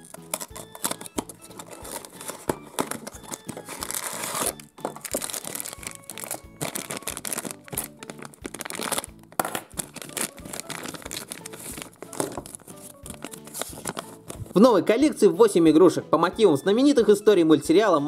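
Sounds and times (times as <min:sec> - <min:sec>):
wrapper tearing: 0:00.0 - 0:14.5
plastic wrapper crinkling: 0:00.0 - 0:14.6.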